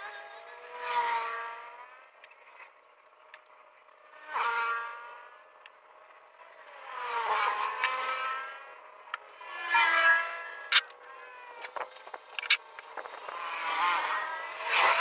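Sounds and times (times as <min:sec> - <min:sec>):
vehicles passing by: 0:00.0 - 0:15.0.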